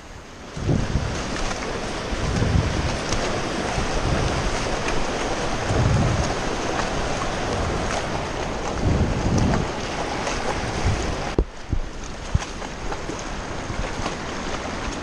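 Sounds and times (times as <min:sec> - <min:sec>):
creek rushing over stones: 0:00.0 - 0:15.0
low rumbles: 0:00.6 - 0:12.9.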